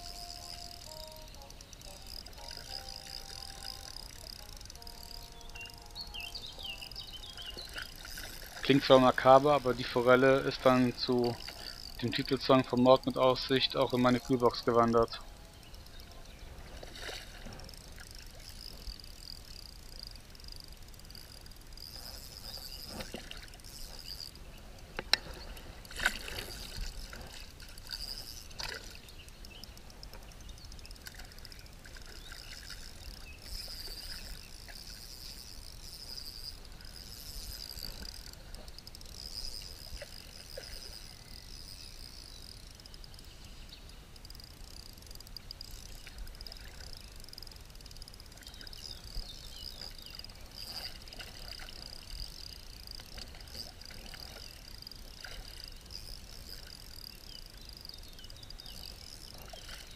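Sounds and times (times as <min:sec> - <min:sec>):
high-pitched chirring: 0:00.0 - 0:16.4, 0:17.7 - 0:24.4, 0:26.4 - 0:59.8
sharp clicks: 0:00.0 - 0:16.4, 0:17.7 - 0:59.8
river water trickling: 0:00.0 - 0:59.9.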